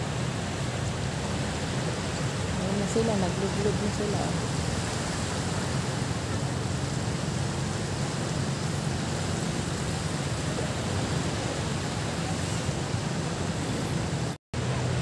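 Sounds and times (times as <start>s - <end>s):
small waves washing ashore: 0.0s - 15.0s.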